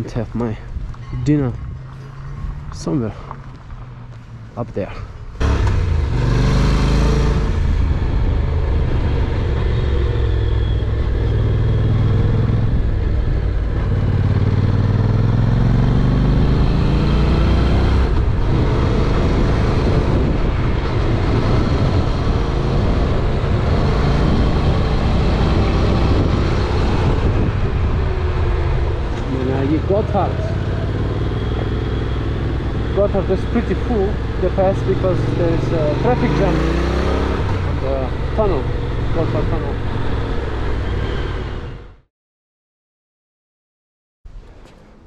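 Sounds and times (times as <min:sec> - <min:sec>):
motorcycle engine accelerating: 0:00.8 - 0:04.6, 0:05.4 - 0:42.0.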